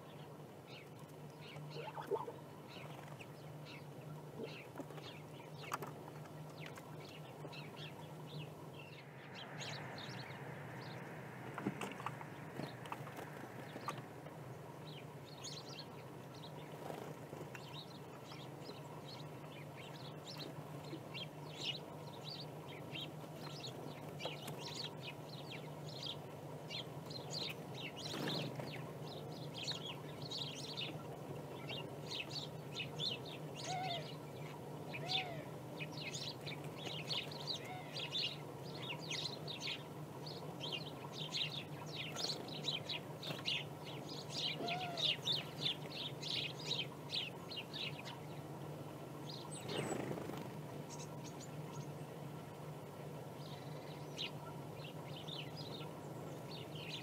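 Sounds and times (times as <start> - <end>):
songbirds chirping: 0.0 - 57.0
steady low hum: 0.0 - 57.0.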